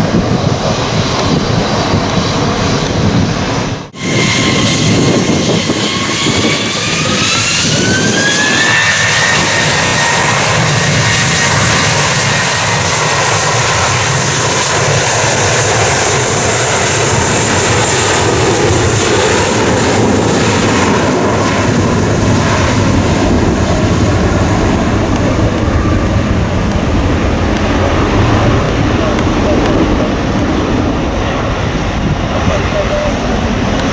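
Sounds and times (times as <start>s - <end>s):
deep jet engine rumble: 0.0s - 33.9s
jet engines hissing: 0.0s - 33.9s.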